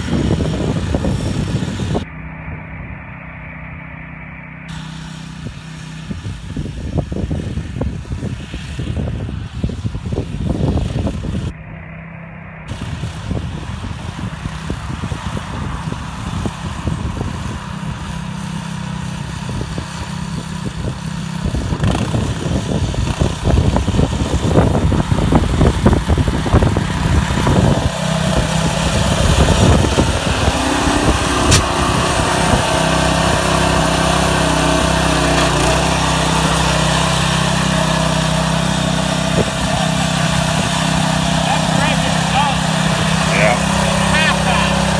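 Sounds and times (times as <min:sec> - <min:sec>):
garden tractor engine running: 0:00.0 - 0:44.9.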